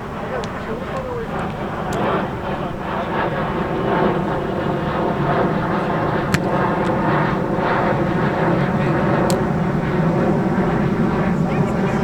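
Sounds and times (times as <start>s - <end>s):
jet aircraft engine drone: 0.0s - 12.0s.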